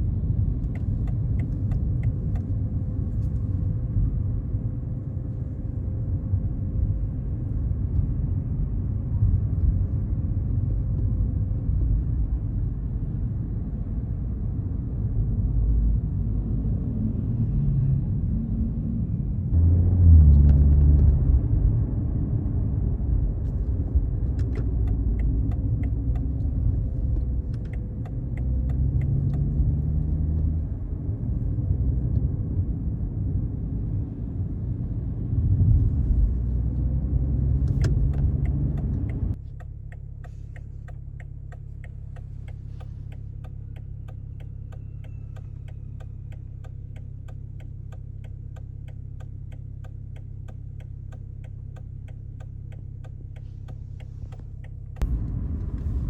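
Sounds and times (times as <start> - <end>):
car engine deep rumble: 0.0 - 56.0
turn signal ticking: 0.1 - 16.5, 20.2 - 56.0.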